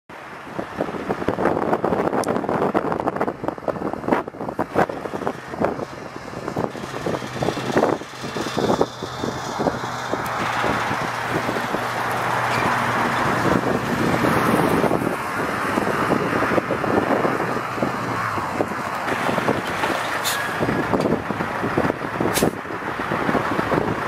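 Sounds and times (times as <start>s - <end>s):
tires crackling on gravel: 1.1s - 24.0s
truck engine humming: 1.2s - 24.0s.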